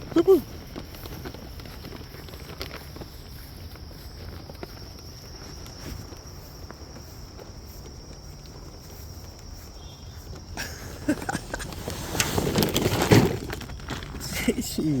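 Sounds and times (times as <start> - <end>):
footsteps outdoors: 0.0 - 15.0.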